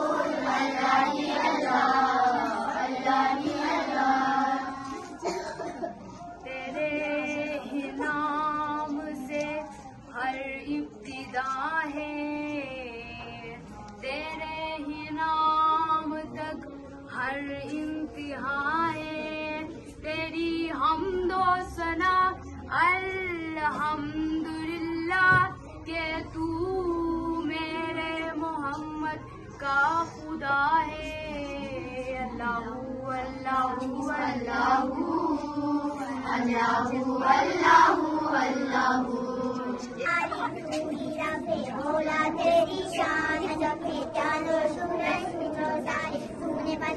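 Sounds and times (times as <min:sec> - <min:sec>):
girl chanting a sung recitation: 0:06.5 - 0:46.9.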